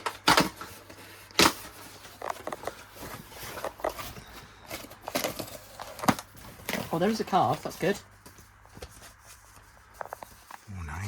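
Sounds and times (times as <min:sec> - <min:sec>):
paper rustling: 0:00.0 - 0:10.7.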